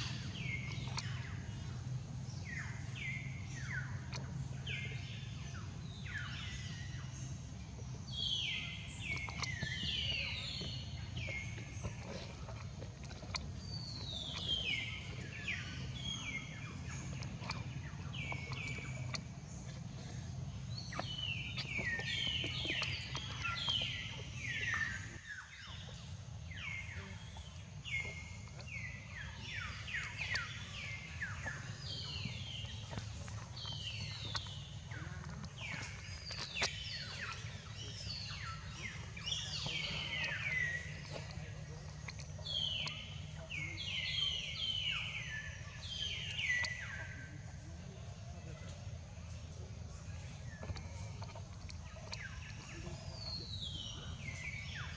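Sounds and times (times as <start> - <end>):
birds chirping: 0.0 - 54.9
steady low hum: 0.0 - 54.9.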